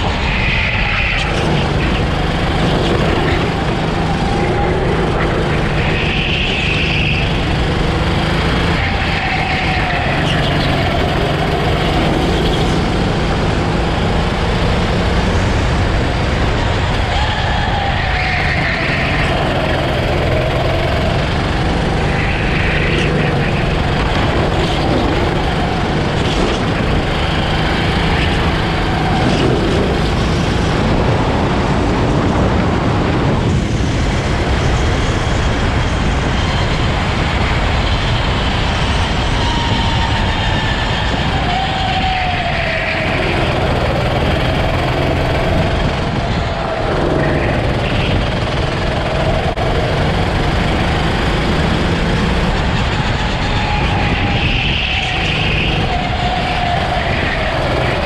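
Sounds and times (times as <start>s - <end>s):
constant rushing noise: 0.0s - 58.0s
go-kart engine running: 0.0s - 58.0s.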